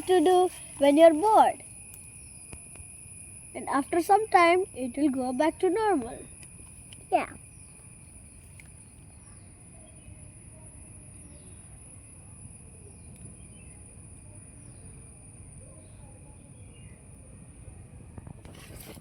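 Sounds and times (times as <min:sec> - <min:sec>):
cricket-like trill: 0:00.0 - 0:19.0.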